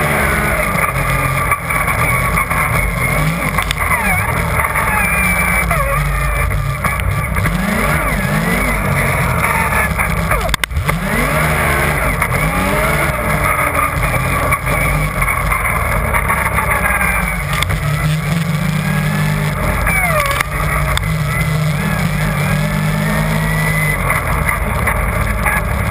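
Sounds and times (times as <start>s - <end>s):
snowmobile engine revving: 0.0s - 25.9s.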